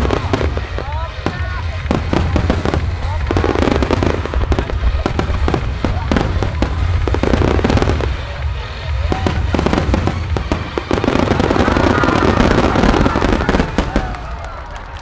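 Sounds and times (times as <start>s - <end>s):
deep rumble: 0.0s - 14.3s
fireworks bangs and crackling: 0.0s - 15.0s
music: 0.0s - 15.0s.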